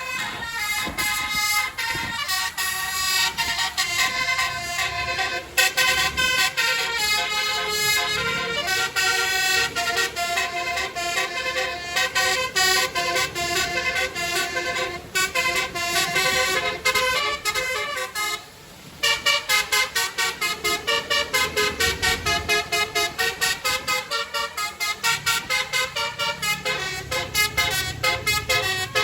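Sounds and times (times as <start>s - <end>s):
multi-tone vehicle horn toots: 0.0s - 29.0s.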